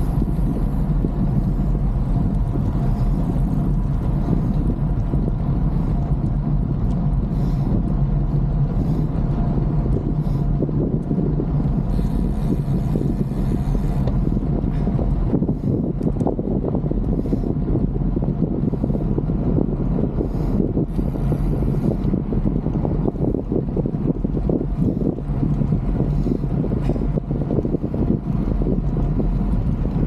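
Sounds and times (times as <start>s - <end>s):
low road rumble: 0.0s - 30.0s
wind on microphone: 0.0s - 30.0s.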